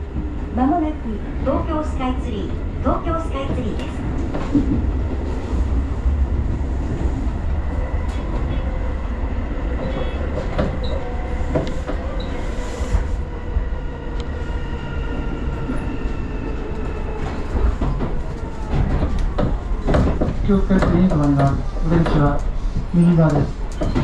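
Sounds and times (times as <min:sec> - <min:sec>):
train rumble from inside car: 0:00.0 - 0:14.5, 0:16.6 - 0:24.0.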